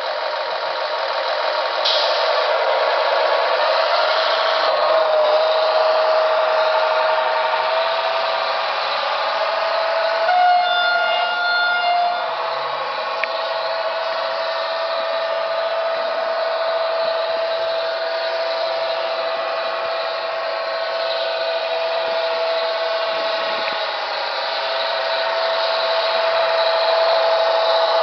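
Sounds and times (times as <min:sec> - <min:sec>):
model train whine: 0:00.0 - 0:28.0.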